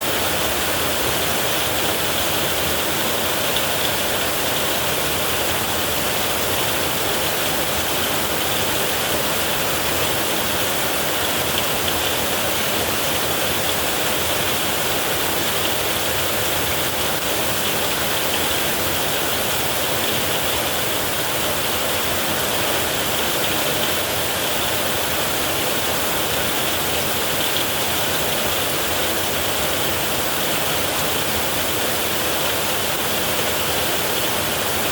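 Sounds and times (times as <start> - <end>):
heavy rain on a tin roof: 0.0 - 34.9.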